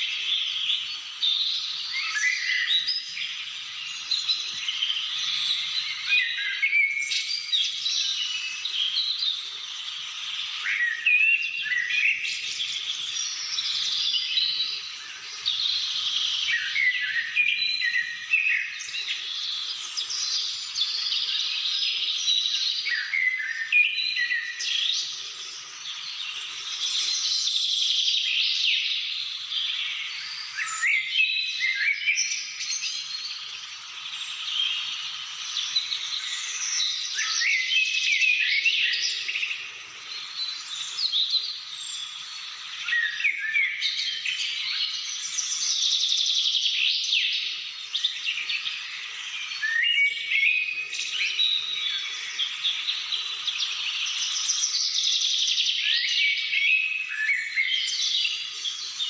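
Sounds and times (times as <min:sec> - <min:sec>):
birds chirping and whistling: 0:00.0 - 0:59.0.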